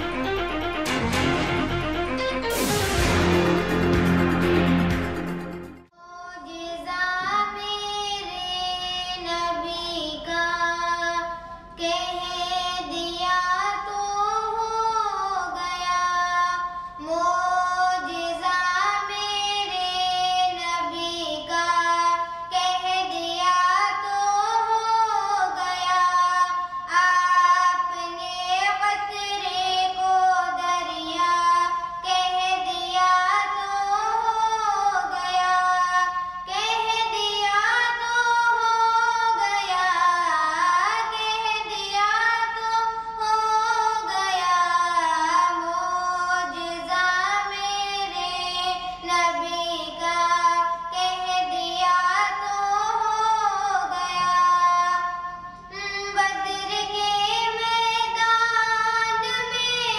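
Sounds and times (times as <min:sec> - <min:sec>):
girl singing: 0:06.0 - 0:59.9.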